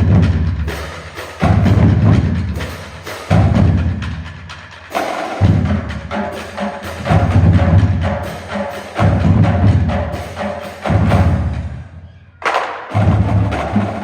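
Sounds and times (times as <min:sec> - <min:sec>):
marching drumline playing: 0:00.0 - 0:14.0.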